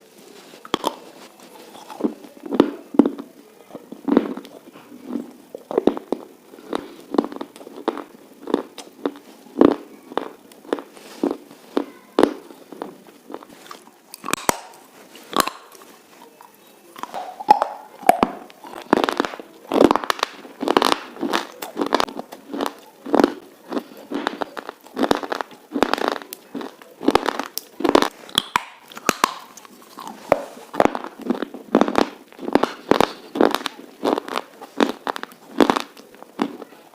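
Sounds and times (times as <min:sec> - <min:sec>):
person chewing crunchy food: 0:00.1 - 0:36.9.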